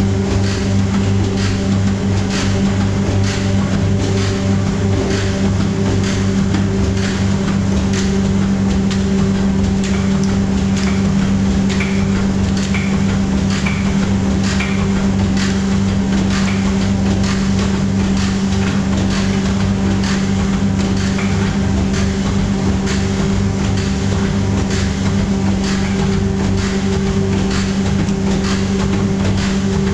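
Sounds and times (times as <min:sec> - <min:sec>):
motor and pump hum: 0:00.0 - 0:29.9
mechanical clacks: 0:00.4 - 0:29.9.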